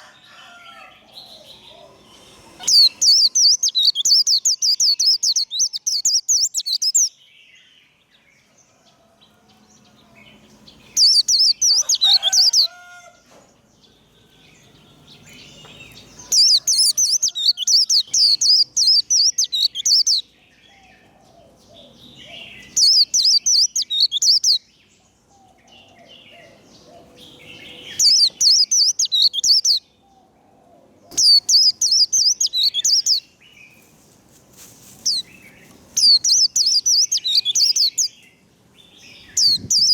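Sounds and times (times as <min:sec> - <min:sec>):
bird twittering song: 0:01.0 - 0:08.5, 0:09.8 - 0:12.8, 0:13.6 - 0:30.4, 0:31.0 - 0:33.9, 0:35.0 - 0:39.9.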